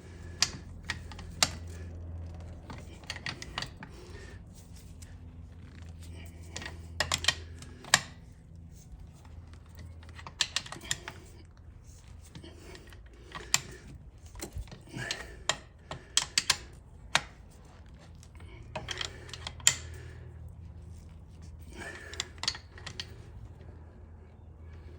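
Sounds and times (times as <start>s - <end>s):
steady low hum: 0.0s - 24.9s
hand tools clicking and clinking: 0.1s - 5.0s, 5.7s - 8.2s, 9.0s - 11.4s, 12.1s - 23.4s.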